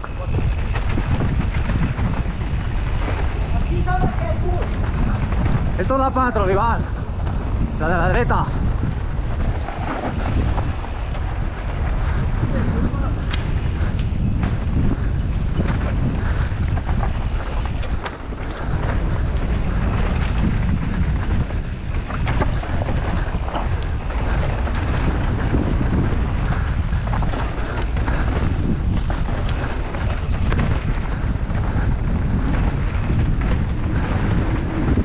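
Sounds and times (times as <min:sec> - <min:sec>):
bike rattling over bumps: 0:00.0 - 0:35.0
tyres rumbling on dirt: 0:00.0 - 0:35.0
wind buffeting microphone: 0:00.0 - 0:35.0.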